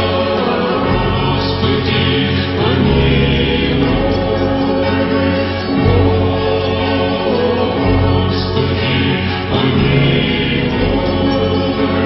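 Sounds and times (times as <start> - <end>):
choir singing held chords: 0.0 - 12.0
low bass: 0.0 - 12.0.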